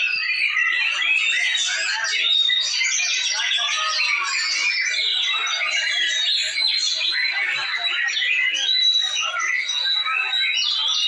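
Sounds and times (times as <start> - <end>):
other birds singing: 0.0 - 11.0.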